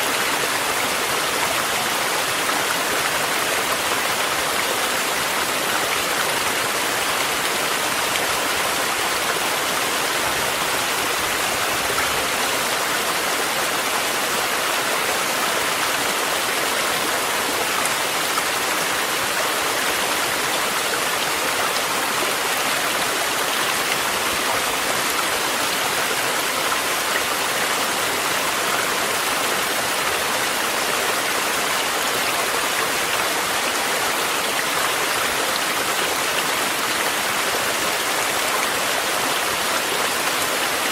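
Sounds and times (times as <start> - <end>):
mountain stream rushing: 0.0 - 40.9
steady rain: 0.0 - 40.9.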